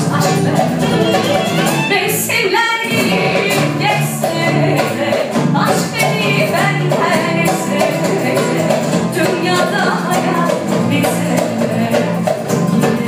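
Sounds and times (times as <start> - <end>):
drum kit: 0.0 - 13.0
guitar: 0.0 - 13.0
person singing: 0.0 - 13.0.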